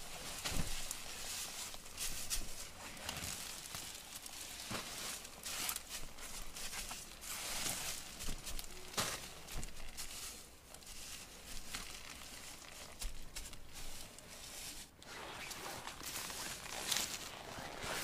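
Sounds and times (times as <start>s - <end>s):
rustling and crinkling handling noise: 0.0s - 18.0s.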